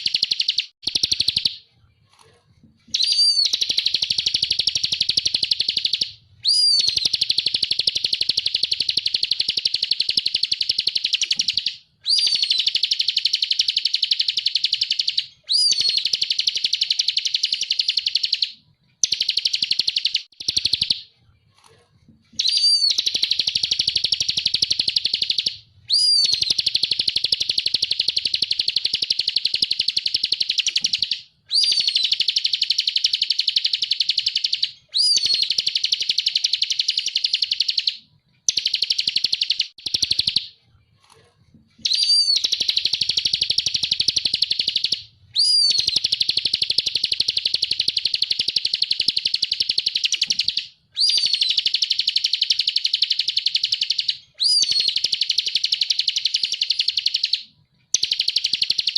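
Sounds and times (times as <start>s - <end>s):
bird buzzy trill song: 0.0s - 21.7s, 22.3s - 40.6s, 41.8s - 58.9s.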